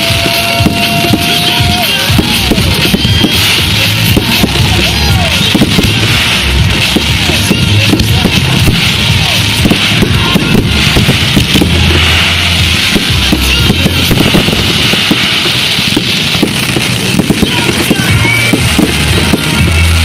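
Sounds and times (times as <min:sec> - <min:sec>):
fireworks popping and crackling: 0:00.0 - 0:20.0
music over loudspeakers: 0:00.0 - 0:20.0.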